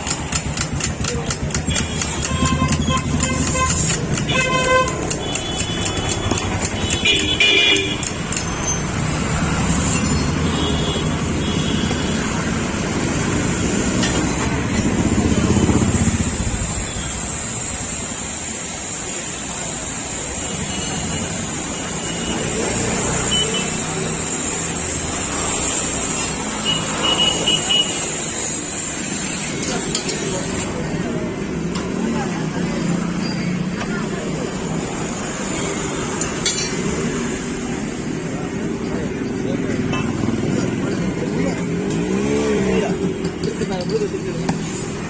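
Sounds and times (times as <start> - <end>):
passing vehicles rumble: 0.0 - 45.0.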